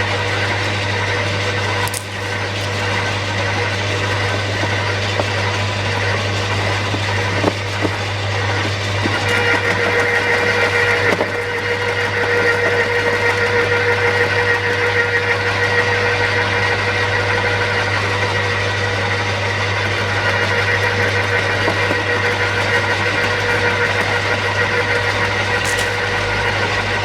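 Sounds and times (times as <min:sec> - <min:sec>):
chipper shredder running: 0:00.0 - 0:27.0.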